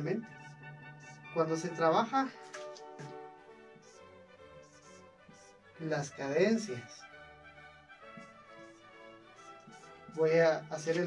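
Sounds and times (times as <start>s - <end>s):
faint music of held tones: 0.0s - 11.0s.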